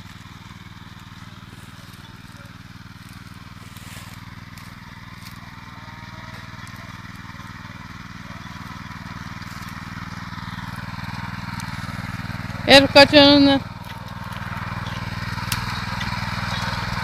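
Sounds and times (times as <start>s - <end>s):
small tiller engine running: 0.0s - 17.0s.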